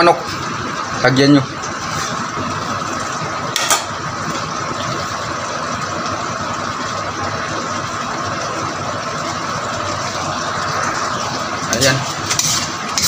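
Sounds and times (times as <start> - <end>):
sauce bubbling in a wok: 0.2 - 13.0.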